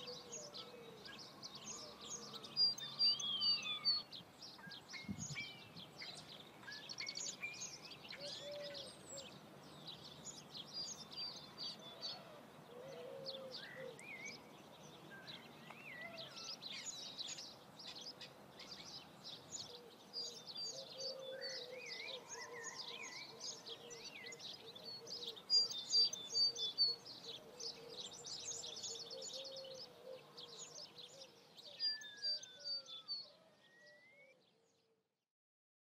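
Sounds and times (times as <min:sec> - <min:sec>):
small birds chirping and trilling: 0:00.0 - 0:34.9.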